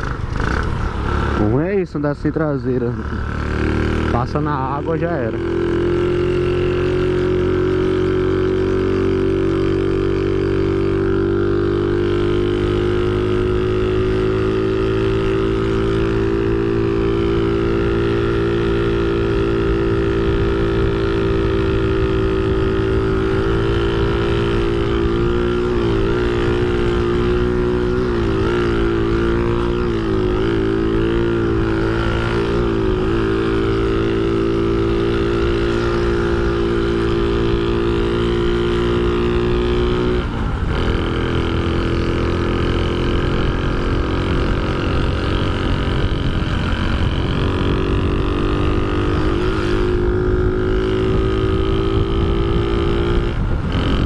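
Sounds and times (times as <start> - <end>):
scooter engine running: 0.0 - 1.8, 2.7 - 54.0.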